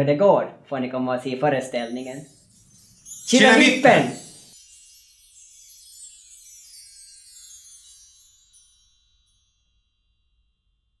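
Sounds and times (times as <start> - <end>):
shimmering bell-like tinkle: 1.8 - 10.6.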